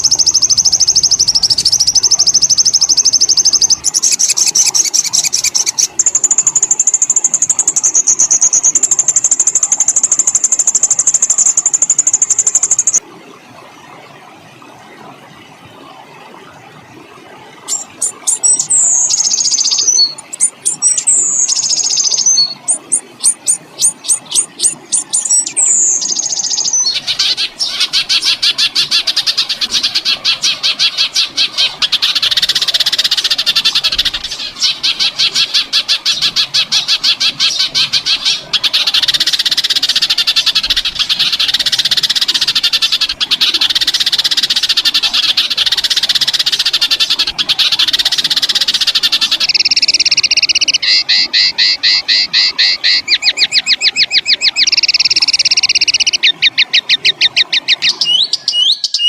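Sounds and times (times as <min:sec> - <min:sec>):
songbird rattling trill: 0:00.0 - 0:13.0, 0:17.7 - 0:59.0.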